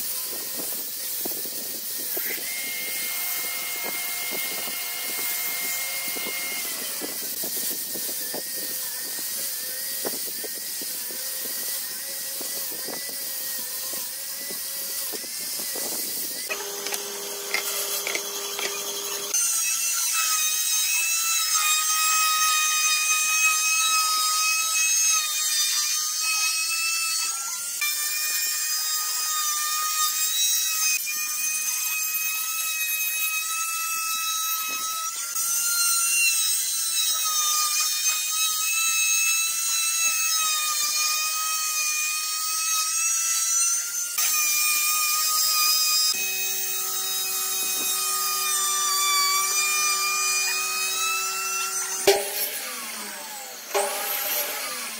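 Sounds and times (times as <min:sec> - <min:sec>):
router whining cutting wood: 0:00.0 - 0:54.9.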